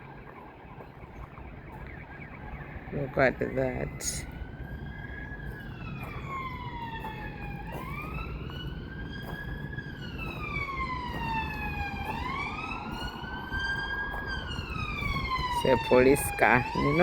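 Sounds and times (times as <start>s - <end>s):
police siren wailing: 0.0s - 17.0s.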